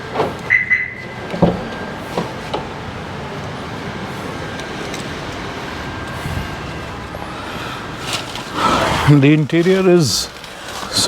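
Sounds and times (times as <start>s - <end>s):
car humming: 0.0s - 11.0s.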